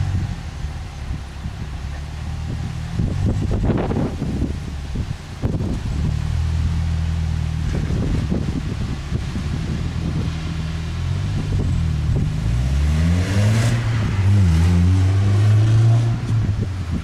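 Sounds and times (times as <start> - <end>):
car engine accelerating: 0.0 - 17.0
wind noise on microphone: 0.0 - 17.0.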